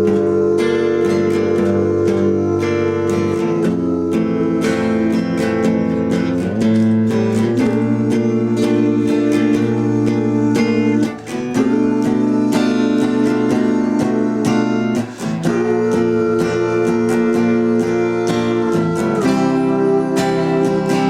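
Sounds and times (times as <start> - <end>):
acoustic guitars strumming: 0.0 - 21.0.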